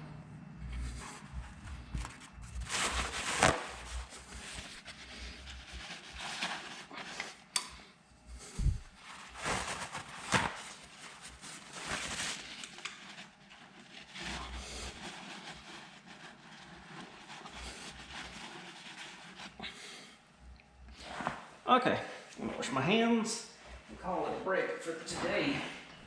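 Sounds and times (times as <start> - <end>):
shuffling and rustling: 0.6 - 7.5, 8.2 - 20.1, 20.9 - 26.0.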